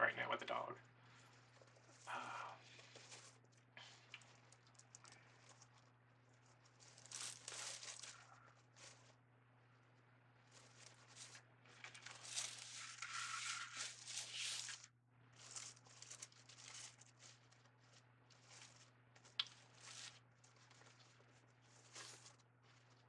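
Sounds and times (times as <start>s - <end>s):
faint low hum: 0.0s - 23.0s
ribbon rustling and crinkling: 0.8s - 23.0s.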